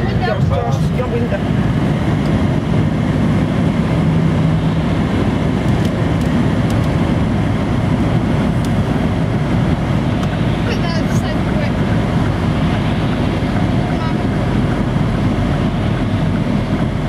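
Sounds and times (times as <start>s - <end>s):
car road and engine noise: 0.0s - 17.0s
low steady drone: 0.0s - 17.0s
tyres on wet road: 0.0s - 17.0s.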